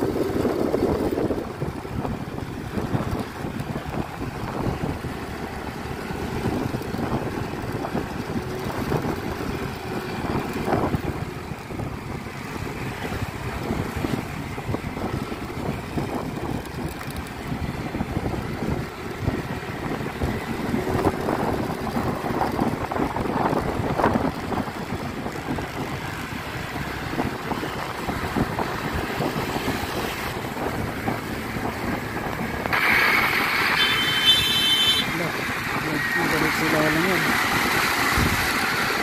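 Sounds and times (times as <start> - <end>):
wind buffeting microphone: 0.0 - 33.8, 35.1 - 39.0
motor scooter engine and tyres: 0.0 - 39.0
passing scooter: 0.0 - 39.0.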